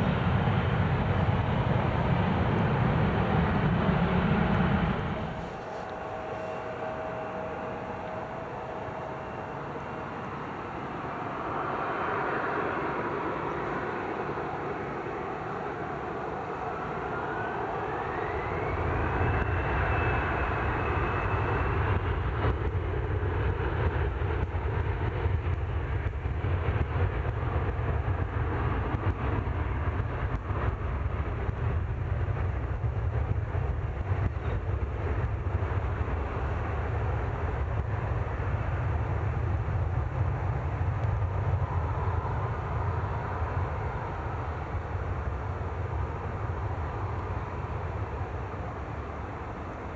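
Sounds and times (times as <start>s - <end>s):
distant jet engines rushing: 0.0s - 49.9s.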